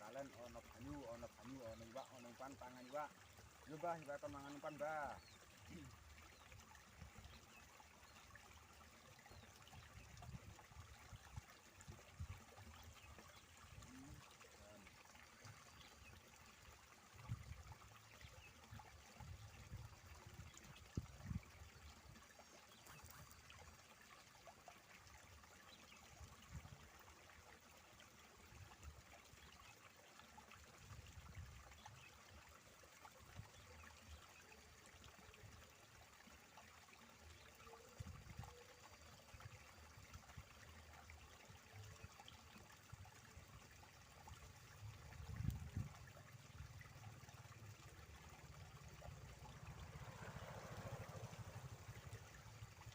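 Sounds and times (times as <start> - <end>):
water trickling in a channel: 0.0 - 52.9.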